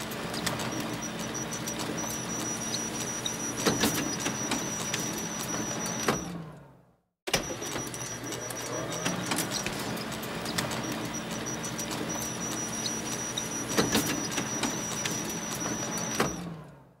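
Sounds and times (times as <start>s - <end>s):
photocopier whirring: 0.0s - 6.5s, 7.3s - 16.8s.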